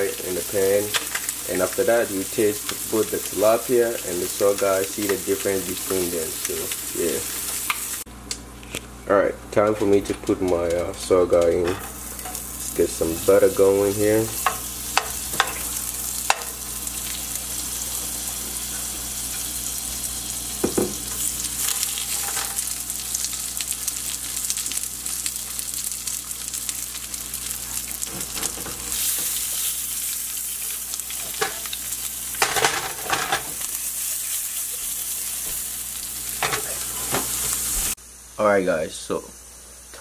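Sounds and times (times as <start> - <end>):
fish sizzling in a frying pan: 0.0 - 8.1, 11.9 - 38.0.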